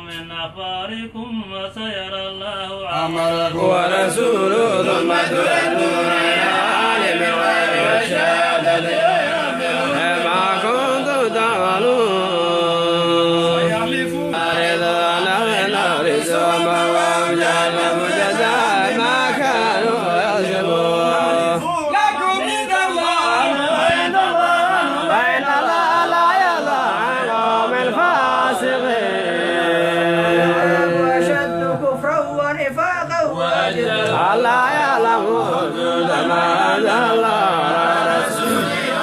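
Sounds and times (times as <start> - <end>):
man chanting melodic recitation: 0.0 - 39.0.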